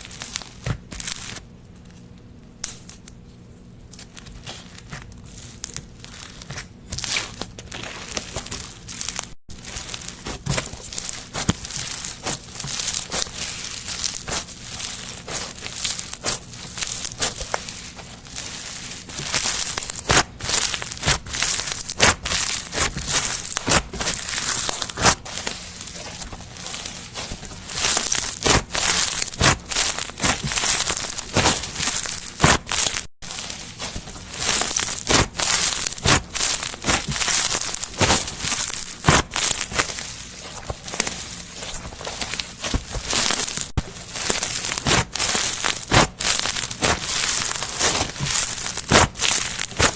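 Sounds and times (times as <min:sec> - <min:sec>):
slime crackling and popping: 0:00.0 - 0:01.4, 0:03.9 - 0:49.9.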